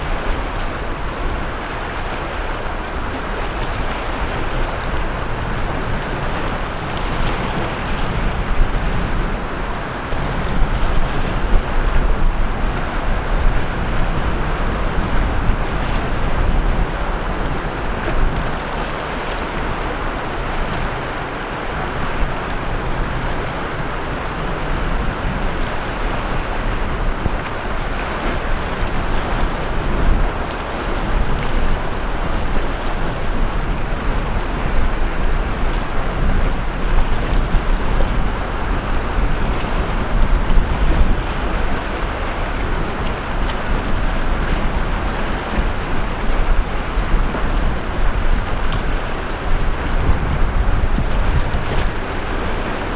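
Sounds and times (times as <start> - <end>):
sea waves washing onto beach: 0.0 - 52.9
wind buffeting microphone: 0.0 - 52.9.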